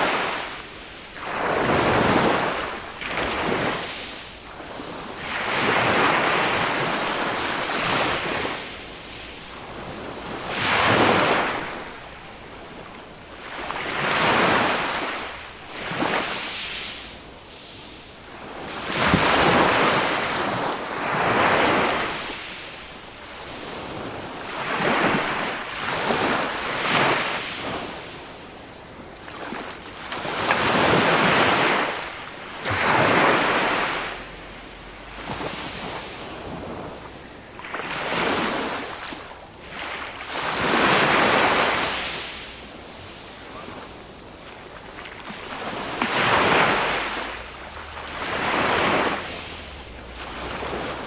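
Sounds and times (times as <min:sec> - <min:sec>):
small waves breaking on beach: 0:00.0 - 0:51.0.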